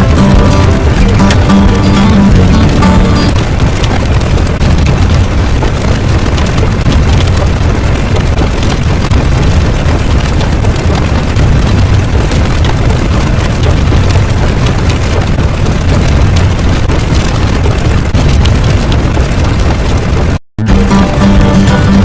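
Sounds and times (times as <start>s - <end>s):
loud deep rumbling: 0.0s - 22.0s.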